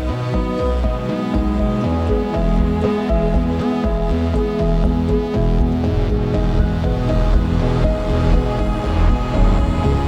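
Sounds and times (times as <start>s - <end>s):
electronic music with synth tones: 0.0s - 10.0s
pulsing deep bass: 0.0s - 10.0s.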